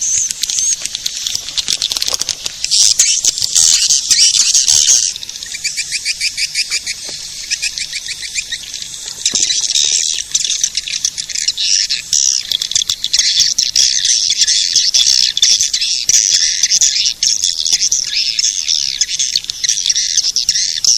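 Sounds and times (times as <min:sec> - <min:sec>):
swiftlets twittering and chirping: 0:00.0 - 0:20.9.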